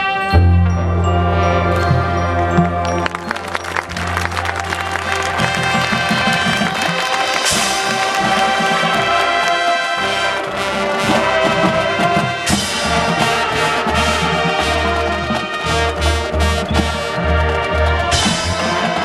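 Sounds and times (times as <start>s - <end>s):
brass chords: 0.0s - 19.0s
marching drums: 3.4s - 19.0s.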